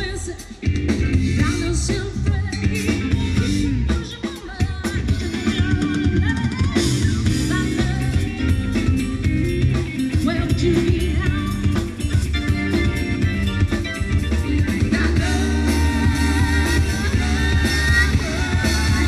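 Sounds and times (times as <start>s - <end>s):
bass line: 0.0s - 19.0s
live rock band: 0.0s - 19.0s.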